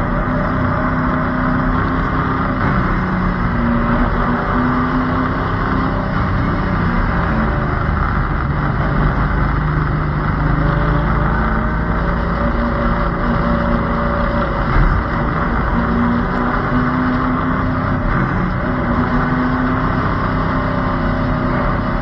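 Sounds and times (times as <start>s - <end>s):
race car engine running hard: 0.0s - 22.0s
road noise: 0.0s - 22.0s.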